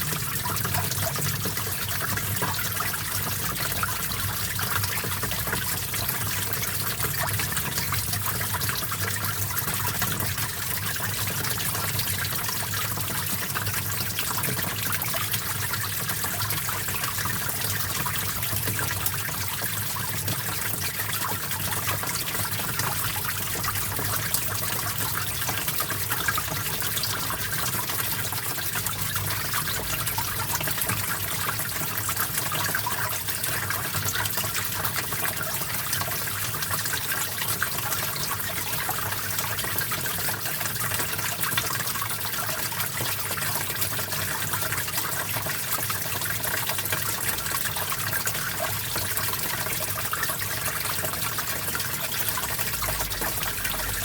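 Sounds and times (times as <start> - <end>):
stream of water trickling: 0.0 - 54.0.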